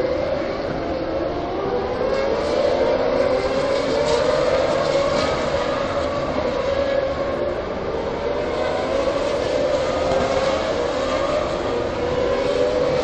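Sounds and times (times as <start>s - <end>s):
distant race car engines droning: 0.0s - 13.0s.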